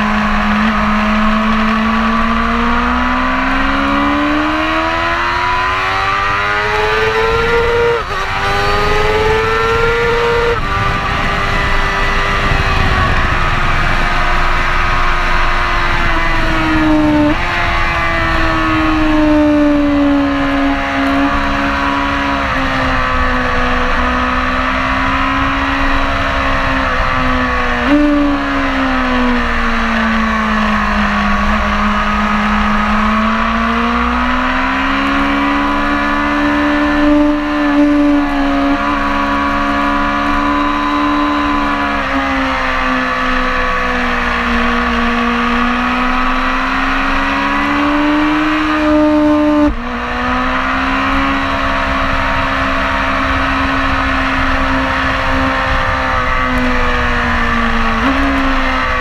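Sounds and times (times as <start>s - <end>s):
motorcycle engine revving hard: 0.0s - 59.0s.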